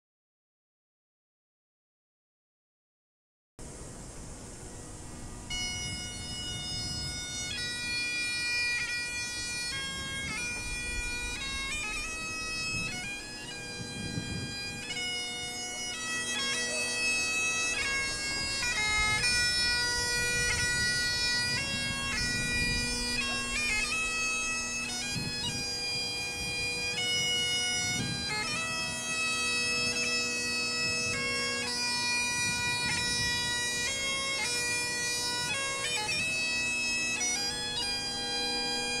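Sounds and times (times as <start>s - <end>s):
bagpipe playing: 4.5s - 39.0s.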